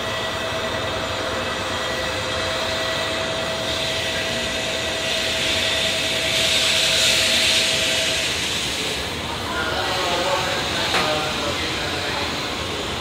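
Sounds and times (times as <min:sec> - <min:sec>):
train rushing into platform: 0:00.0 - 0:13.0.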